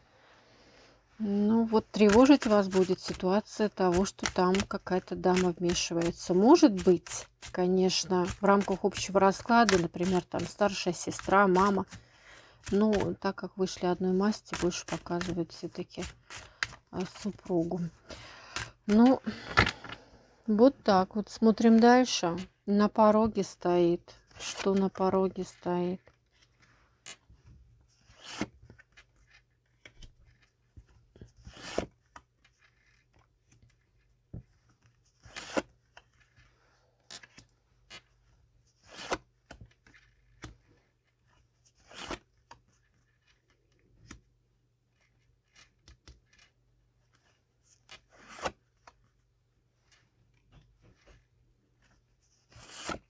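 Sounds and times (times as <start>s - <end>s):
cards being shuffled and laid out: 1.7s - 20.1s, 24.2s - 44.3s, 44.9s - 49.2s, 49.8s - 53.0s.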